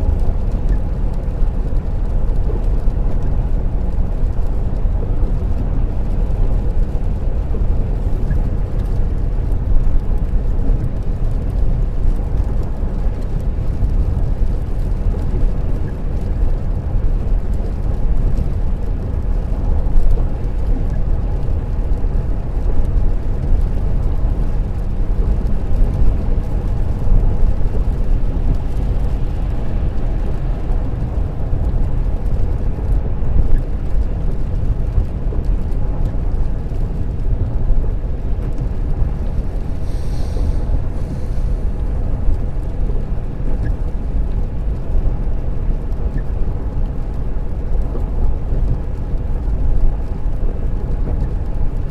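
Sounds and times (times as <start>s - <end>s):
tyres rumbling on wet road: 0.0s - 51.9s.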